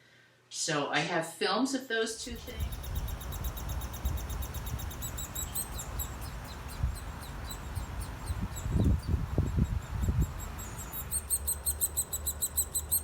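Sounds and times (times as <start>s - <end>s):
nestlings peeping: 2.2s - 13.0s.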